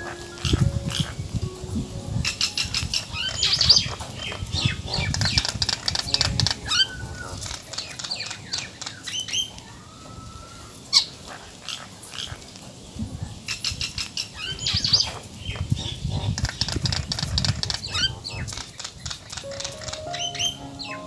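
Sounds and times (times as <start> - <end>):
small birds chirping: 2.2 - 21.0.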